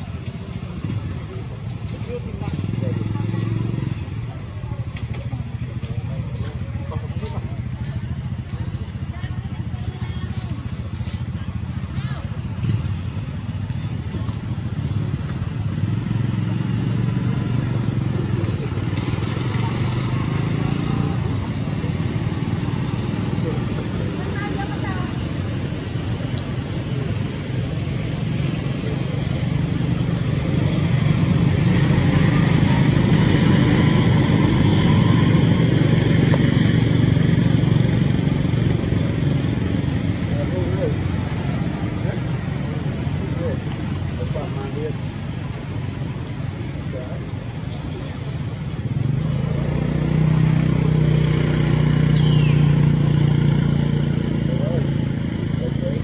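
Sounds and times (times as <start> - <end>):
engine running with low hum: 0.0 - 56.0.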